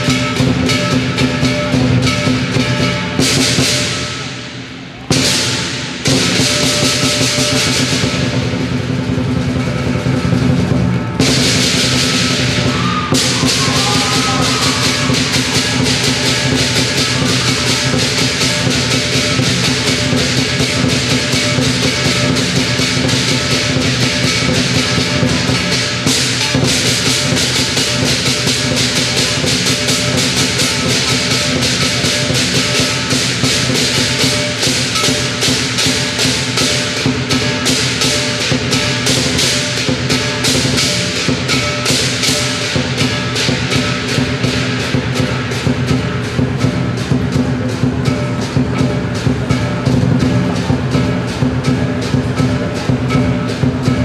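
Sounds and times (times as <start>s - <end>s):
cymbals clashing: 0.0s - 54.0s
large drum beaten fast: 0.0s - 54.0s
ringing gong: 0.0s - 54.0s.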